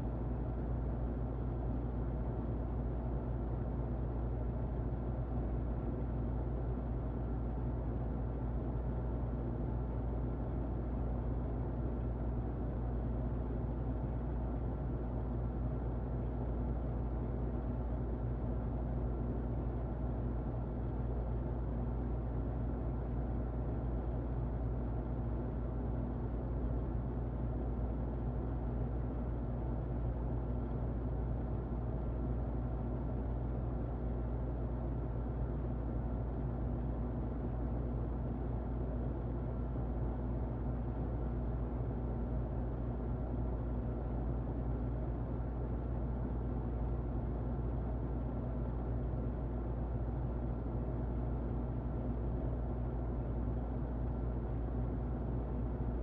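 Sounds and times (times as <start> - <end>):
muffled electric fan running: 0.0 - 56.0.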